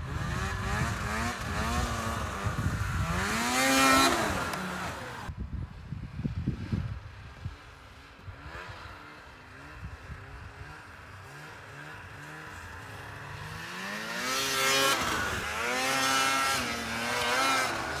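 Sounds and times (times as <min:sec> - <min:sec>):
snowmobile engine revving: 0:00.0 - 0:05.3, 0:07.2 - 0:18.0.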